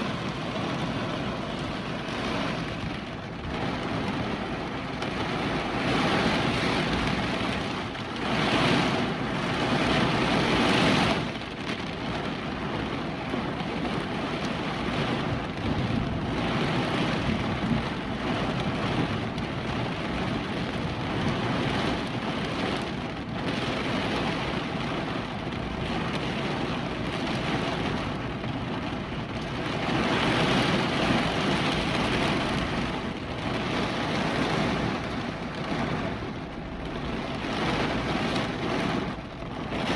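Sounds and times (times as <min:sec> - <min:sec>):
heavy rain: 0:00.0 - 0:39.9
hurricane wind: 0:00.0 - 0:39.9.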